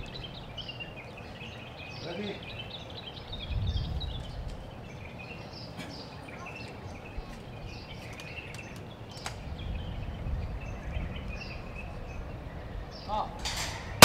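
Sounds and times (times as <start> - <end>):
steady low rumble: 0.0 - 1.9, 2.5 - 5.3, 6.9 - 14.0
small birds chirping: 0.0 - 14.0.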